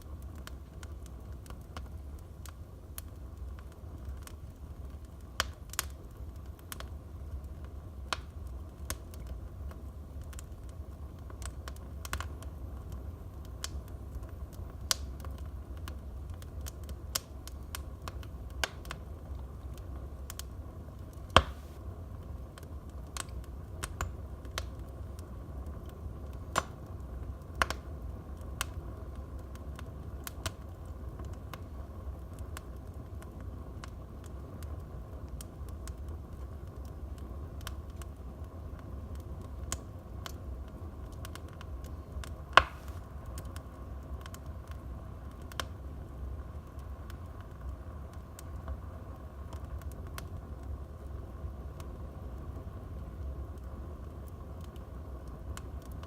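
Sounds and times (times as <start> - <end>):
fire popping and snapping: 0.0 - 56.0
wood fire crackling: 0.0 - 56.0.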